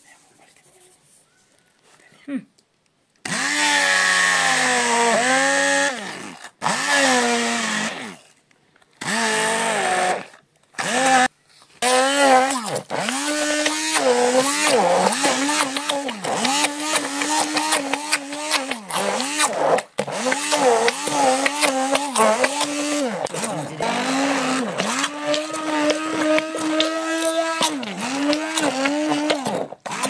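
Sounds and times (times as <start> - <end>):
blender motor whining: 3.2 - 8.4, 9.0 - 30.0.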